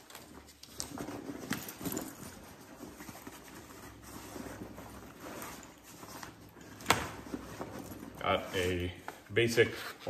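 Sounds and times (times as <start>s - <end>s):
fabric rustling and shuffling: 0.0s - 10.0s.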